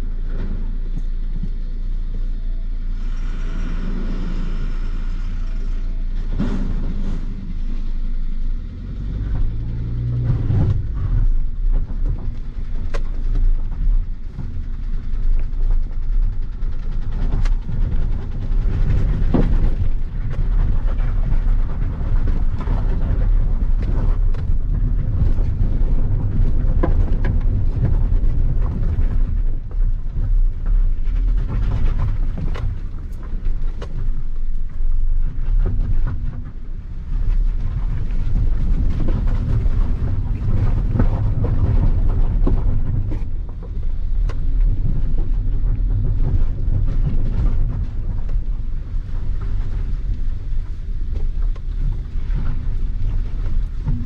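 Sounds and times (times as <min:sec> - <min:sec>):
engine and tyres rumbling: 0:00.0 - 0:54.0
car knocks and rattles: 0:06.0 - 0:54.0.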